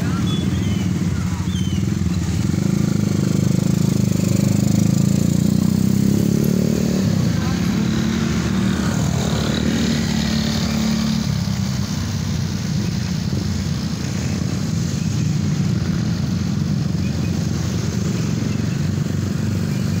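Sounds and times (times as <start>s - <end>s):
motorcycle engine running: 0.0s - 20.0s
traffic hum: 0.0s - 20.0s.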